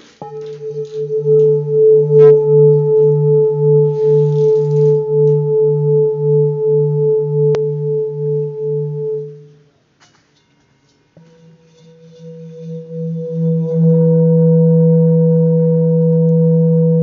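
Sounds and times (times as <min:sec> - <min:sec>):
singing bowl ringing: 0:00.2 - 0:09.6, 0:11.2 - 0:17.0.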